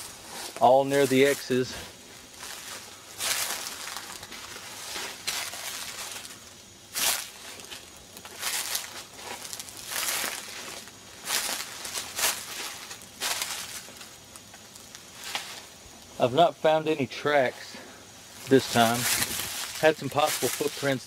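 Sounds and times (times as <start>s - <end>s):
footsteps through dry leaves: 0.0s - 15.9s, 18.2s - 21.0s.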